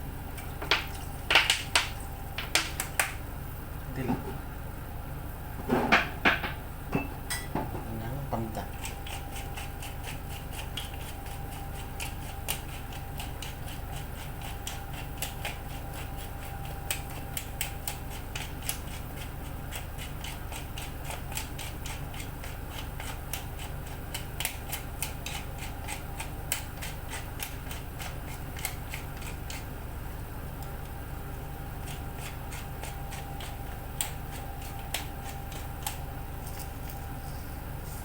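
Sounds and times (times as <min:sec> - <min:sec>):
pot heating on stove hum: 0:00.0 - 0:38.0.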